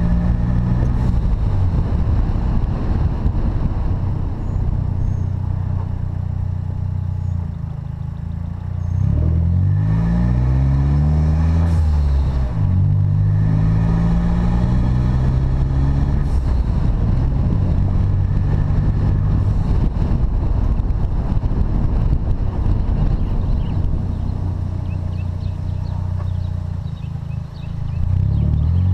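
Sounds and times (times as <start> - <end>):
car engine accelerating through gears: 0.0 - 3.7, 8.8 - 28.9.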